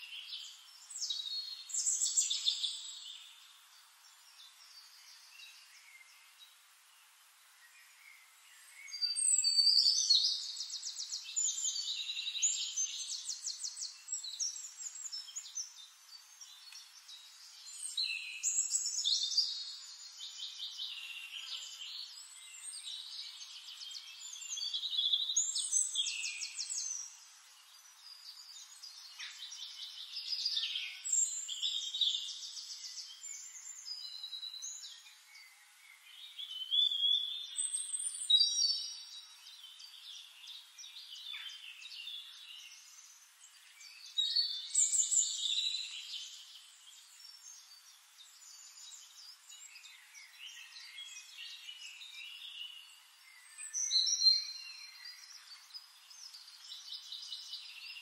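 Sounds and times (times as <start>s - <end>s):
songbird singing trills: 0.0s - 6.4s, 7.6s - 58.0s.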